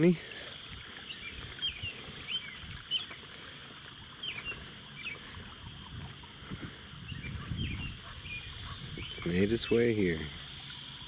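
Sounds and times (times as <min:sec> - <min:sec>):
water splashing from chute: 0:00.0 - 0:11.0.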